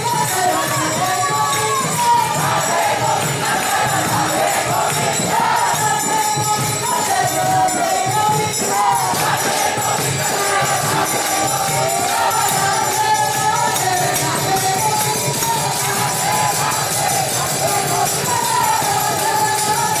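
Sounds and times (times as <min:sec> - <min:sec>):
crowd singing together: 0:00.0 - 0:20.0
hand cymbals jingling: 0:00.0 - 0:20.0.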